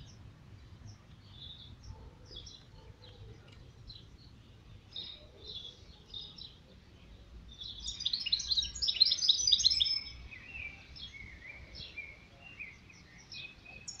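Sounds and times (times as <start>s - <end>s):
bird singing: 0.0s - 14.0s.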